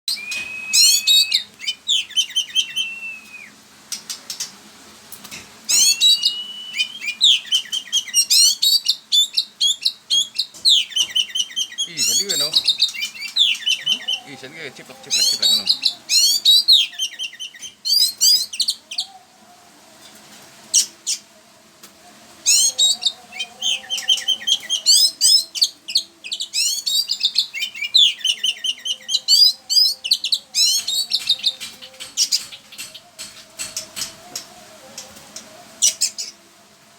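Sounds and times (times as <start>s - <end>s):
songbird chirping: 0.1s - 4.6s, 5.2s - 36.9s.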